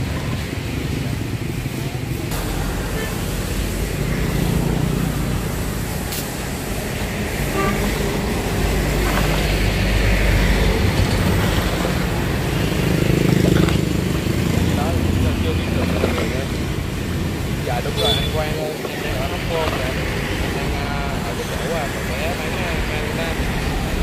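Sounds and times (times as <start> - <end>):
motorbike engines passing: 0.0 - 24.0
truck engines passing: 0.0 - 24.0.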